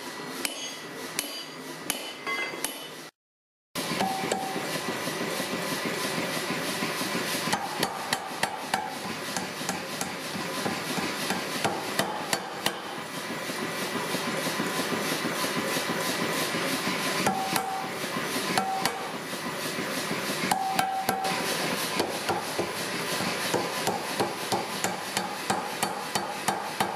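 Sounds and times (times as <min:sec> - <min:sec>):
power hammer blows on hot steel: 0:00.0 - 0:03.1, 0:03.8 - 0:26.9
machine running: 0:03.8 - 0:26.9.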